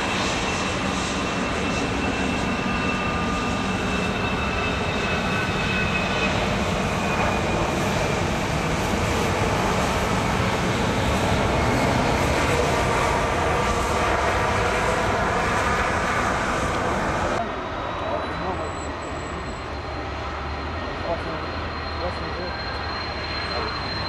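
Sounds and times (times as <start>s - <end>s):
jet engines at low thrust: 0.0s - 24.0s.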